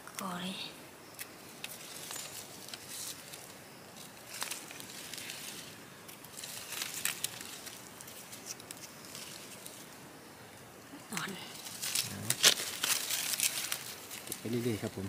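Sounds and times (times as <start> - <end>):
dry leaves rustling and crackling: 1.4 - 10.0, 11.1 - 15.0.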